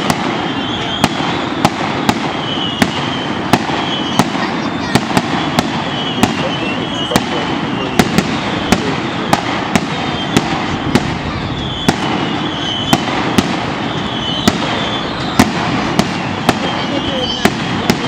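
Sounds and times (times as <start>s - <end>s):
firework bangs: 0.0s - 18.0s
firework hiss and crackle: 0.0s - 18.0s.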